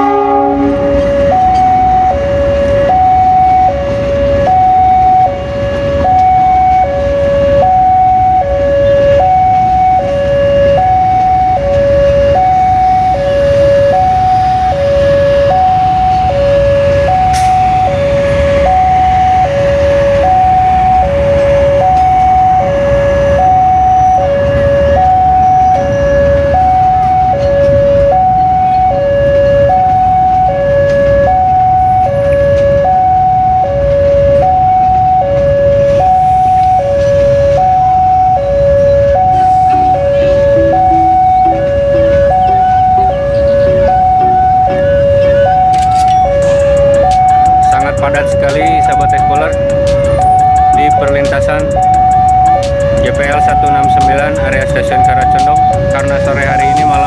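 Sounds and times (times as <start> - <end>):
train carriages rumbling: 0.0 - 57.0
two-tone level crossing alarm: 0.0 - 57.0.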